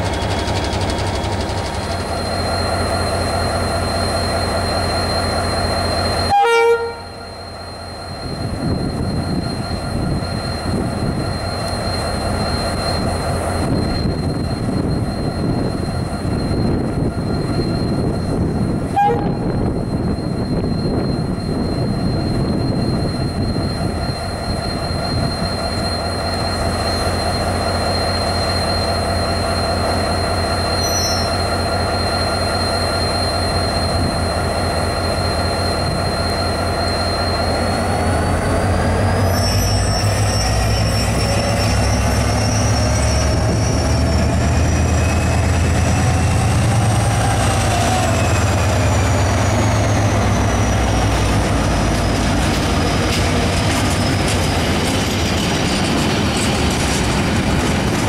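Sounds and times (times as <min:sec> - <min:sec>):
diesel locomotive engine running: 0:00.0 - 0:58.0.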